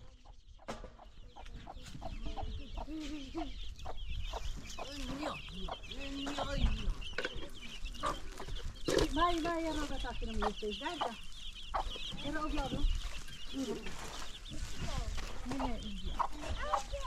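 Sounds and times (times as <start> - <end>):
chickens clucking: 0.0 - 17.0
high chirping: 0.0 - 17.0.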